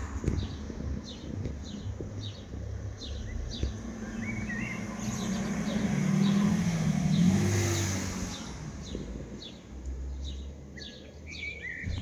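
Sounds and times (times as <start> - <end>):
car engine hum: 0.0 - 11.2
low street rumble: 0.0 - 12.0
small birds chirping: 0.0 - 12.0.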